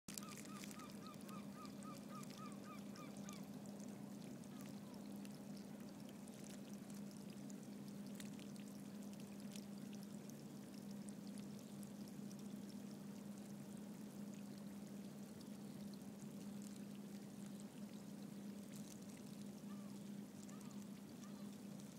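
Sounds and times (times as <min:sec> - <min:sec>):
vents bubbling and crackling: 0:00.1 - 0:21.9.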